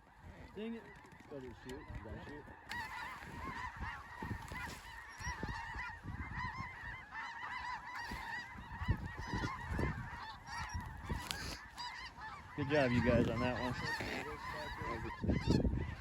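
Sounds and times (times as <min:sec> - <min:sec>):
geese calling: 0:00.0 - 0:16.0.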